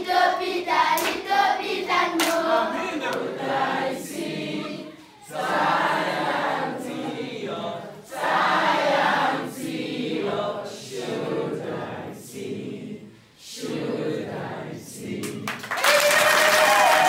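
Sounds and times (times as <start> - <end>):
children singing together: 0.0 - 15.4.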